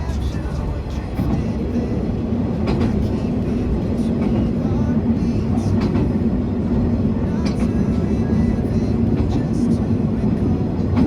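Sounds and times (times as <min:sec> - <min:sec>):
diesel railcar engine drone: 0:00.0 - 0:11.0
wheels clicking over rail joints: 0:00.0 - 0:11.0.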